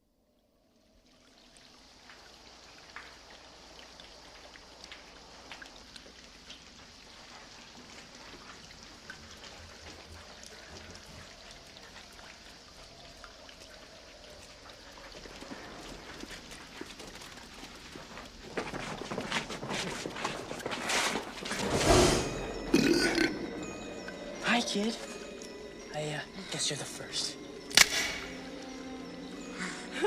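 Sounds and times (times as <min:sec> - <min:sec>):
water trickling and dripping: 0:00.2 - 0:30.0.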